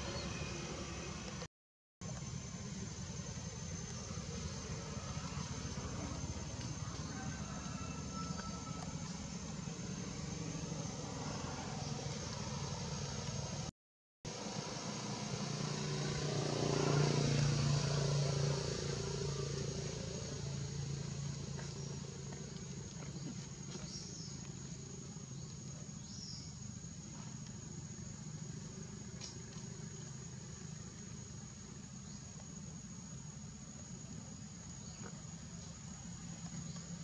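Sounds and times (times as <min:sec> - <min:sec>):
vehicle engine passing by: 0:00.0 - 0:13.7, 0:14.3 - 0:37.0.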